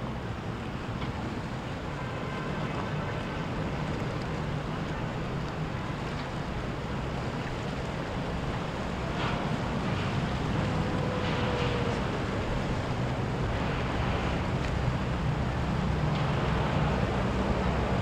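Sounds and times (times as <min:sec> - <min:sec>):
boat engines droning: 0:00.0 - 0:18.0
surf washing: 0:00.0 - 0:18.0.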